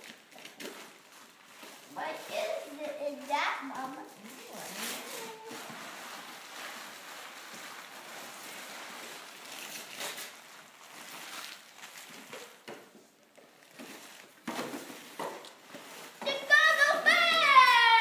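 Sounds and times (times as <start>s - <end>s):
wrapping paper rustling and tearing: 0.0s - 18.0s.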